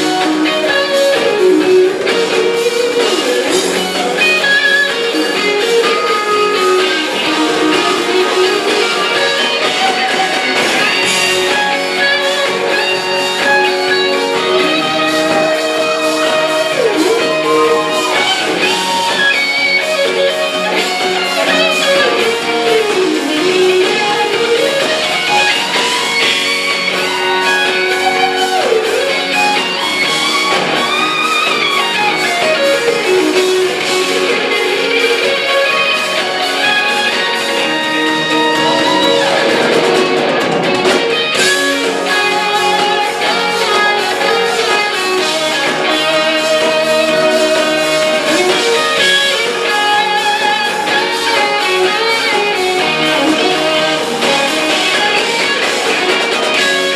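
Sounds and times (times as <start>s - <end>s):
lead guitar bending and sliding: 0.0s - 56.9s
live band playing guitar music: 0.0s - 56.9s.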